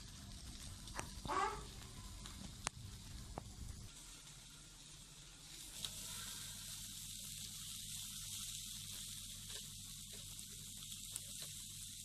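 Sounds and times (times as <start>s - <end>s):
meat sizzling on charcoal grill: 0.0s - 12.0s
sharp crackle: 0.0s - 12.0s.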